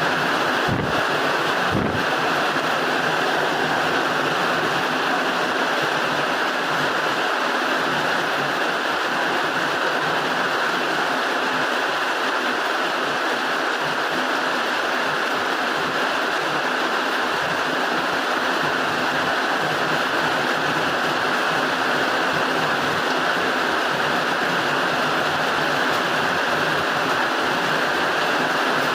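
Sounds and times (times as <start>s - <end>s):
rain pouring on a roof: 0.0s - 28.9s.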